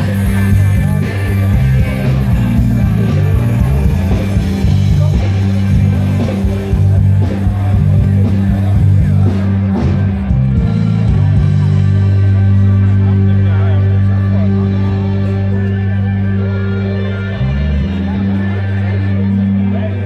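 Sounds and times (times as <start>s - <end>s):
loud rock music: 0.0s - 20.0s.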